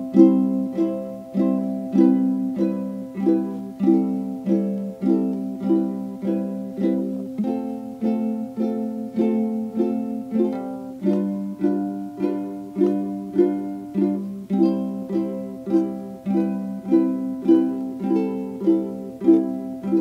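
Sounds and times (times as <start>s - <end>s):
plucked string instrument strumming: 0.0s - 20.0s.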